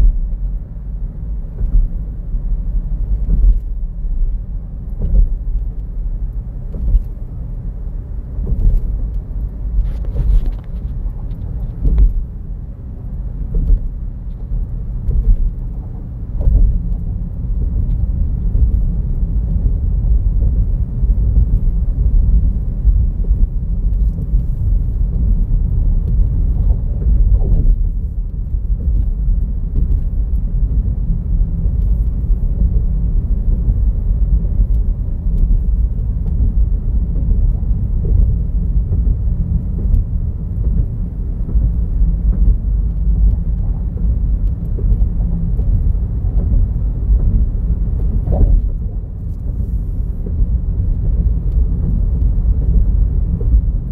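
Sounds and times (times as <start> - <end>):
car road and engine noise: 0.0 - 53.9.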